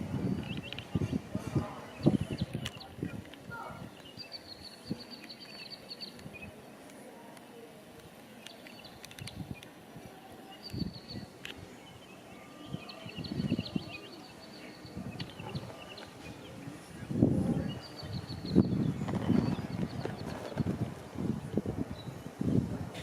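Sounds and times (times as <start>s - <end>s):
small birds chirping trills: 0.2s - 6.8s, 8.3s - 22.7s.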